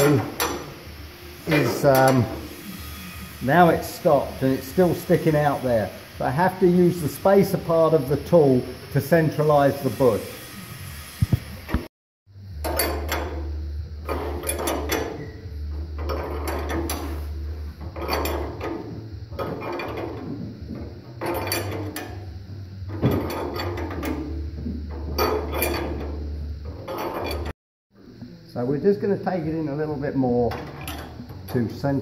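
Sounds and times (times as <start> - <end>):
wrench metallic strokes: 0.0 - 11.9, 12.6 - 20.4, 21.2 - 27.5.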